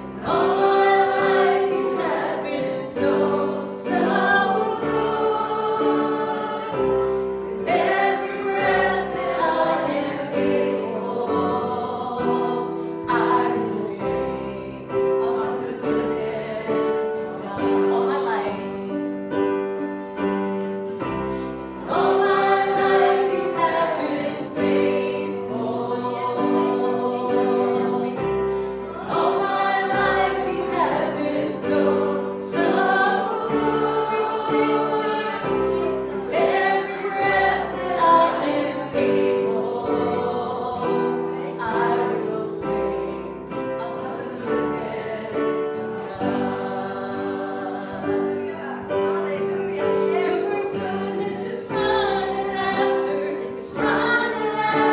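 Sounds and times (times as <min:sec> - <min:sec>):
sustained keyboard chords: 0:00.0 - 0:54.9
voices singing a hymn: 0:00.0 - 0:54.9.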